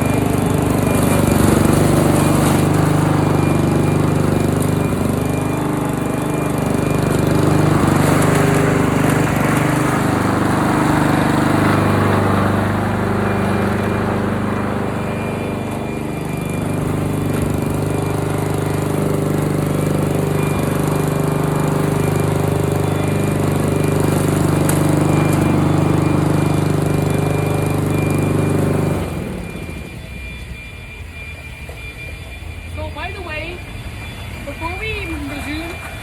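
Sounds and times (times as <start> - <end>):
lawn mower engine shredding leaves: 0.0 - 30.5, 34.4 - 36.0.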